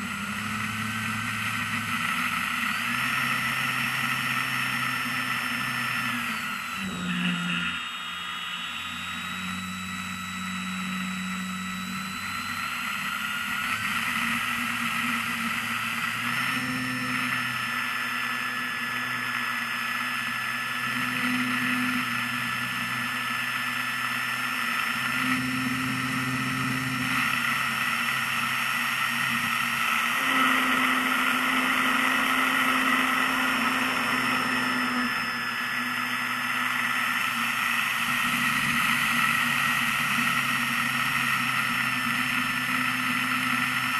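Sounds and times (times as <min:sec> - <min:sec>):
model airplane motor whine: 0:00.0 - 0:43.9.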